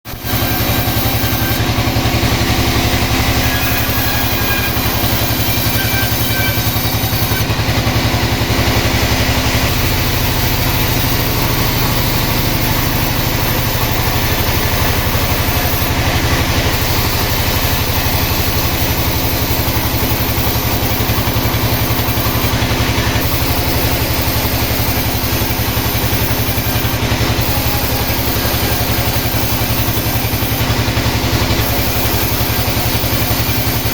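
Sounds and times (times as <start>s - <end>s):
sawmill engine running: 0.0s - 33.9s.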